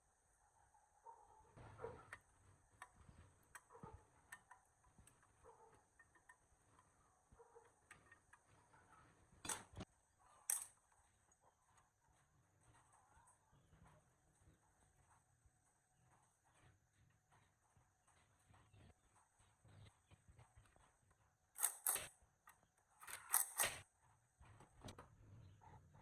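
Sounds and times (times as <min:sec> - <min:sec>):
faint clicks and taps: 0:01.6 - 0:26.0.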